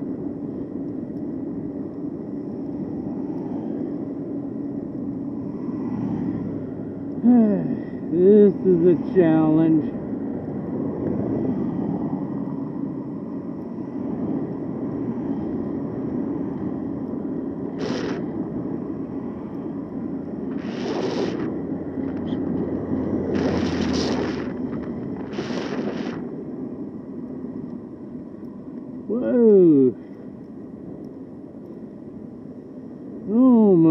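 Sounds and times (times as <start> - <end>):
wind rushing on microphone: 0.0 - 33.9.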